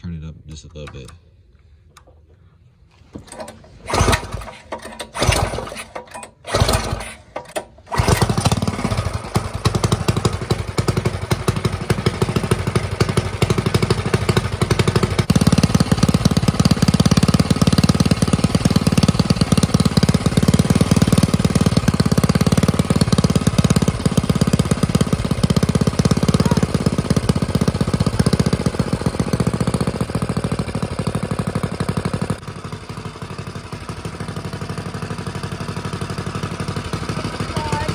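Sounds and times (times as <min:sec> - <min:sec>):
small engine sputtering and running: 0:03.3 - 0:37.9.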